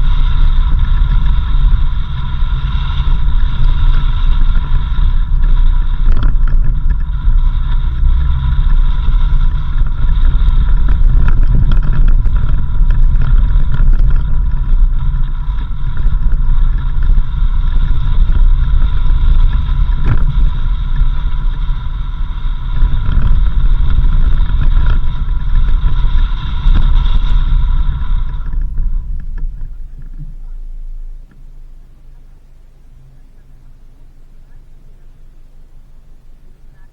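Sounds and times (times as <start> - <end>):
high whine: 0.0 - 36.9
vehicle rumble on dirt road: 0.0 - 36.9.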